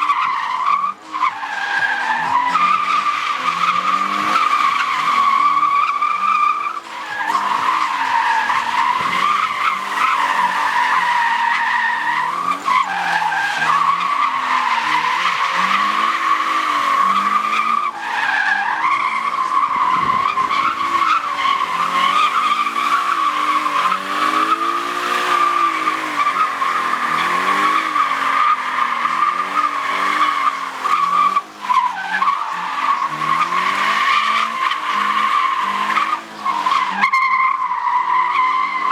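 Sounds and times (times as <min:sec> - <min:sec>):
car engine revving: 0:00.0 - 0:37.1
car tyres squealing: 0:00.0 - 0:38.9.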